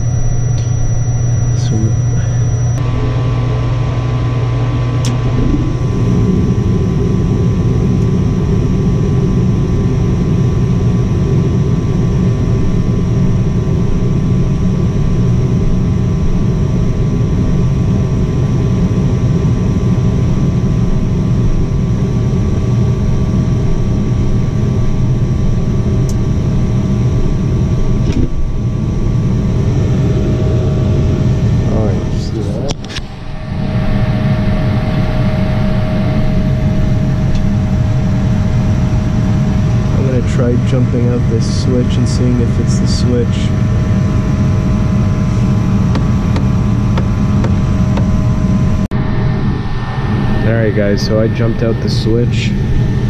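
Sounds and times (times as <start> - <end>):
gas furnace running: 0.0 - 53.0.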